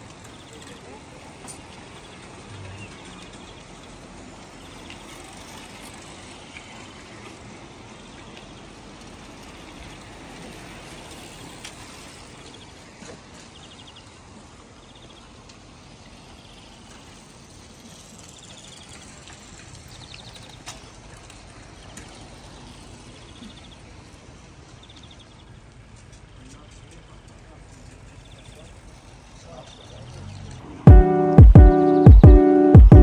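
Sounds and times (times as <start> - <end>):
tyre and wind hiss: 0.0 - 30.8.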